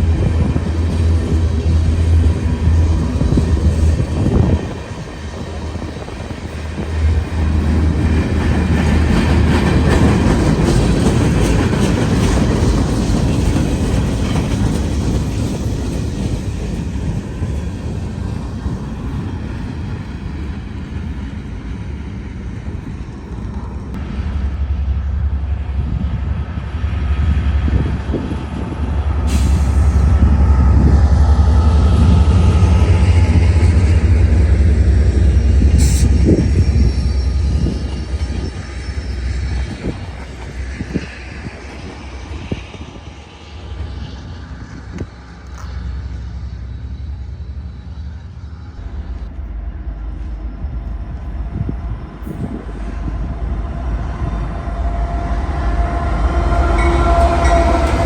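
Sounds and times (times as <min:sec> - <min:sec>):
train engine rumble: 0:00.0 - 0:58.0.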